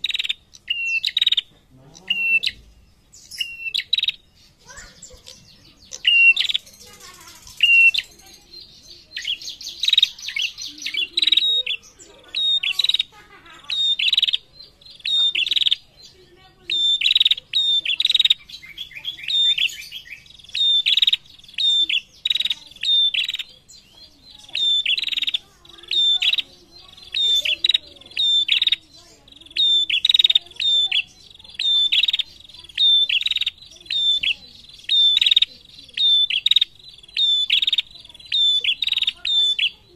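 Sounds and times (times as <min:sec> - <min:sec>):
bird buzzy rattle and trill: 0:02.5 - 0:39.9.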